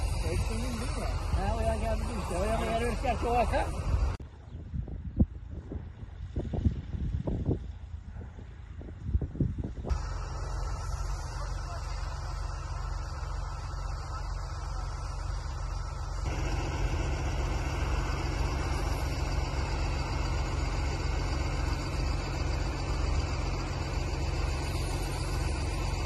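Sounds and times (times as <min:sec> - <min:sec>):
diesel engine running: 0:00.0 - 0:04.2, 0:05.8 - 0:26.0.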